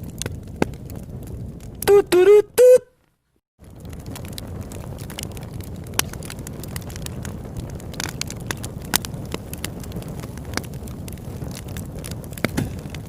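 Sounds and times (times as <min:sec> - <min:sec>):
fire flames rushing: 0:00.0 - 0:01.9, 0:03.6 - 0:13.0
burning wood crackling and popping: 0:00.0 - 0:13.0.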